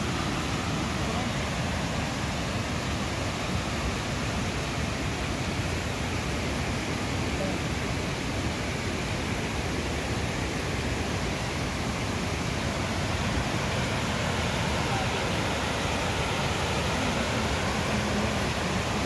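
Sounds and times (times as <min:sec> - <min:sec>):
water rushing: 0:00.0 - 0:19.0.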